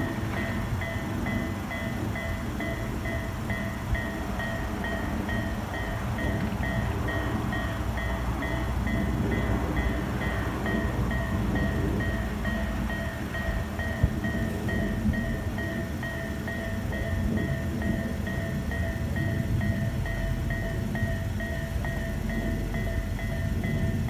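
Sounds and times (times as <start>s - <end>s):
level crossing warning bell: 0.0s - 24.0s
steady low rumble: 0.0s - 24.0s.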